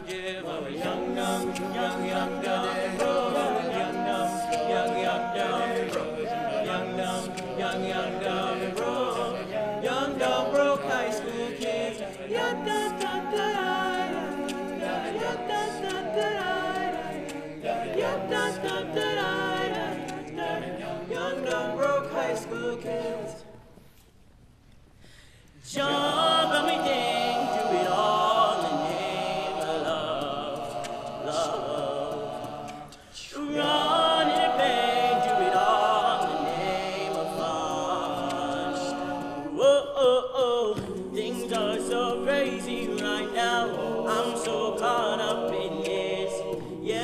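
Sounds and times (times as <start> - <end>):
male a cappella group singing: 0.0 - 23.8, 25.6 - 47.0.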